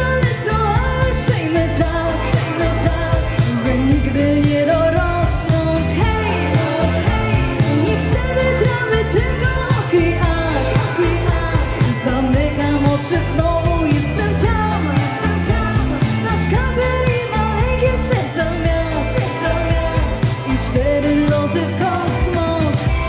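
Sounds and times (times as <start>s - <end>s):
live dance band playing: 0.0s - 23.0s
person singing: 0.0s - 23.0s.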